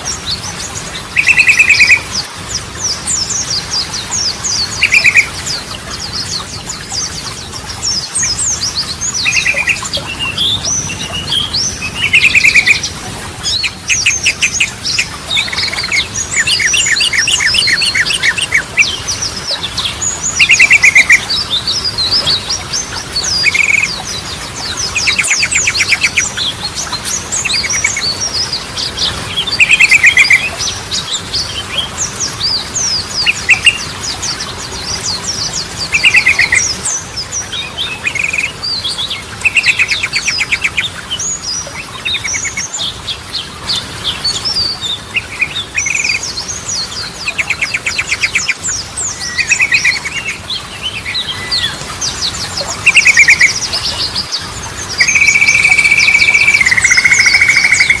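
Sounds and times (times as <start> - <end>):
bulbuls singing with trills: 0.0 - 58.0.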